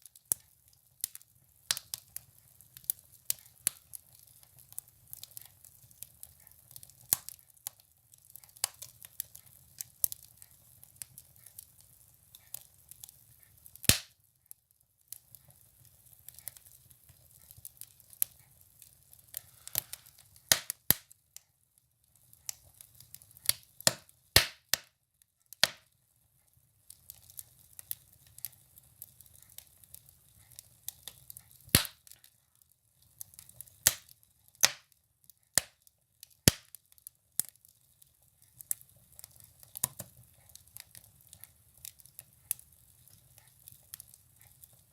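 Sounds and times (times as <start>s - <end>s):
firewood crackling and popping: 0.0s - 44.9s.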